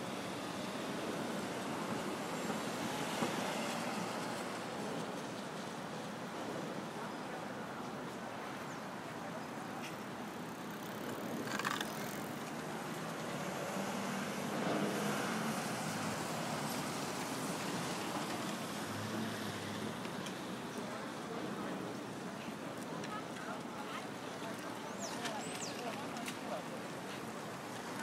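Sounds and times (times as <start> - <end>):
passing traffic: 0.0 - 28.0.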